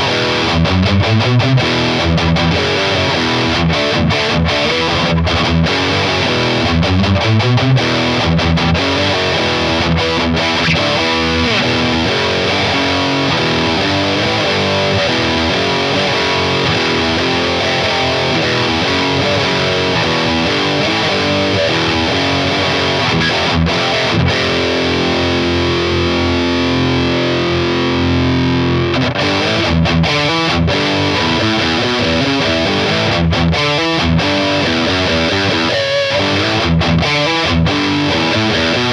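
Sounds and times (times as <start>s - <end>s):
distorted electric guitar riffs: 0.0s - 38.9s.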